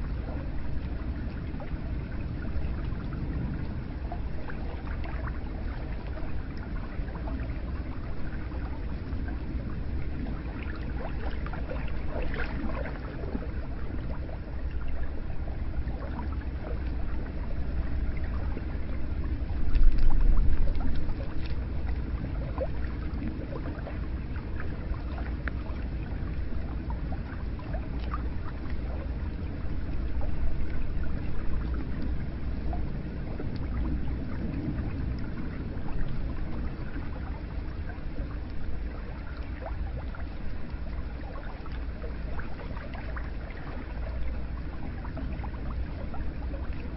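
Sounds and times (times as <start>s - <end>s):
water drips and trickles: 0.0s - 46.9s.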